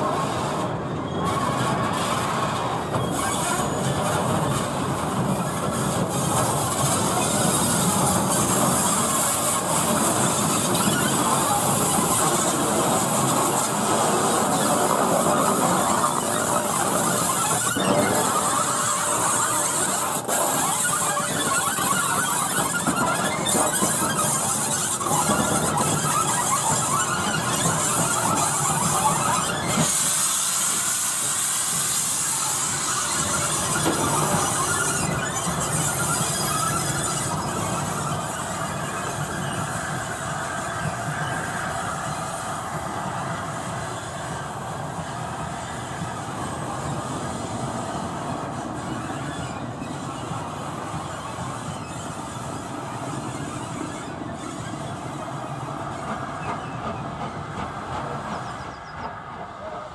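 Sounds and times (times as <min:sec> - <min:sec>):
steam hissing: 0:00.0 - 0:59.9
wheel flanges squealing on rails: 0:00.0 - 0:59.9.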